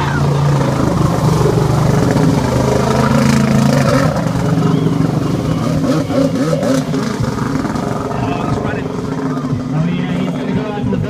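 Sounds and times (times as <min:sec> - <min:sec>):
jet ski engine revving: 0:00.0 - 0:11.0.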